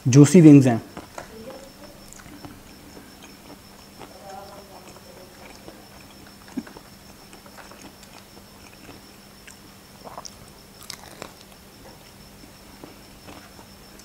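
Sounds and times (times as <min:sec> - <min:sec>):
faint hum: 0:00.0 - 0:14.0
chewing crispy chicken wings: 0:00.8 - 0:14.0.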